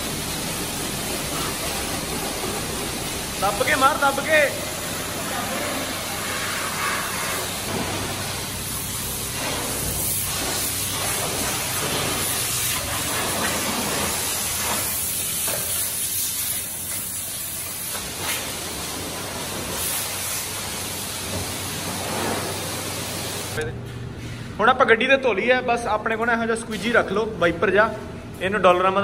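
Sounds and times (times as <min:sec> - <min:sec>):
high-pressure water spray hissing: 0:00.0 - 0:23.6.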